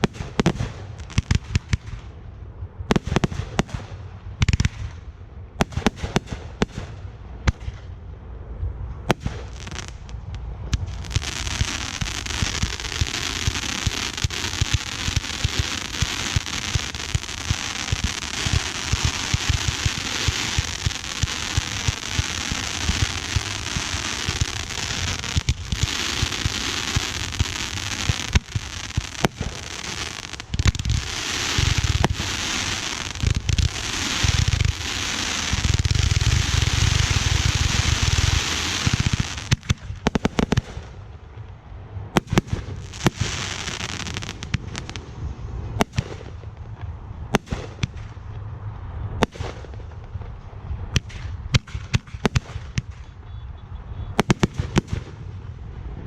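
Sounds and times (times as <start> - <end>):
fireworks bangs and booms: 0.0 - 2.1, 2.9 - 7.9, 9.0 - 41.5, 42.1 - 48.4, 49.2 - 53.3, 54.1 - 55.9
fireworks crackling: 9.0 - 48.4, 49.2 - 53.2, 54.2 - 55.9.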